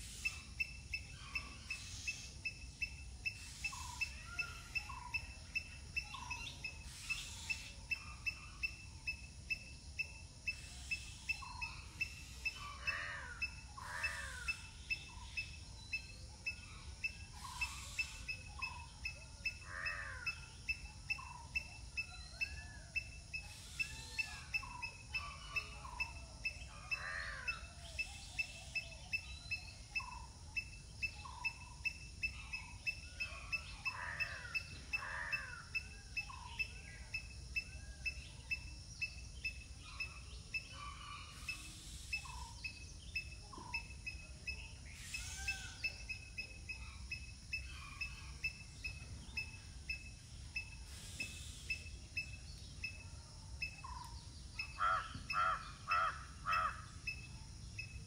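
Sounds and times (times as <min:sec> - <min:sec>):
birds chirping: 0:10.4 - 0:58.0.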